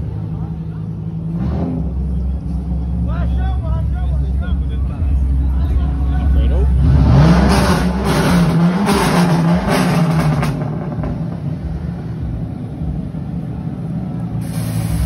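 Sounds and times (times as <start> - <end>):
car engine revving: 0.0 - 3.1, 5.1 - 15.0.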